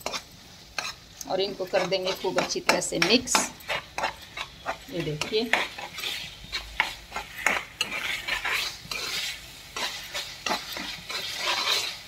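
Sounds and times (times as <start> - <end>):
sauce sizzling in oil: 0.0 - 12.0
spatula scraping frying pan: 0.0 - 12.0.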